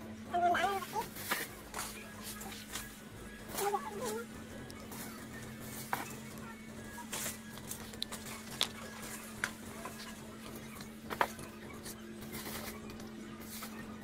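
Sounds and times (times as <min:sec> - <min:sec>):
steady low hum: 0:00.0 - 0:14.0
branches and pole clicking: 0:00.8 - 0:14.0.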